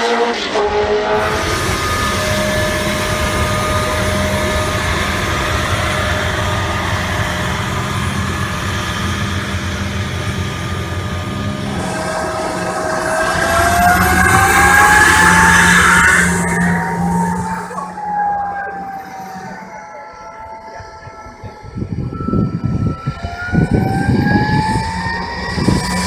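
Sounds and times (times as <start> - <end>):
race car engine with whine: 0.0 - 26.0
road and wind noise: 1.1 - 17.8, 21.4 - 26.0.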